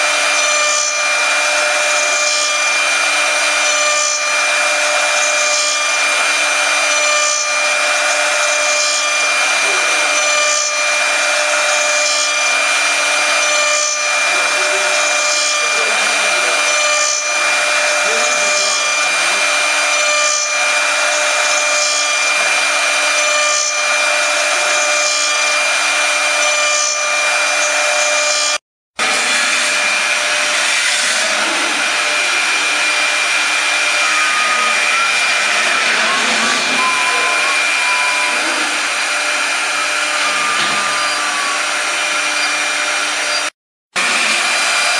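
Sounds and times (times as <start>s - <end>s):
cutters carving wood hiss: 0.0s - 44.9s
router spindles whining: 0.0s - 44.9s.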